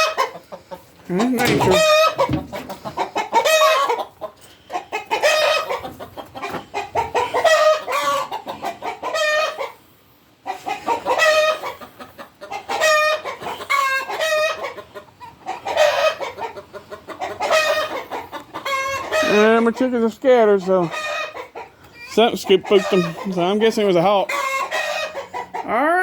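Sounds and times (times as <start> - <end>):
chickens cackling: 0.0 - 26.0.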